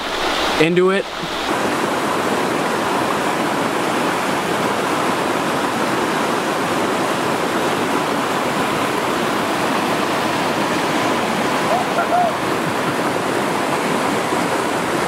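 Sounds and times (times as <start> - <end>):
whitewater roaring over rocks: 0.0 - 15.0.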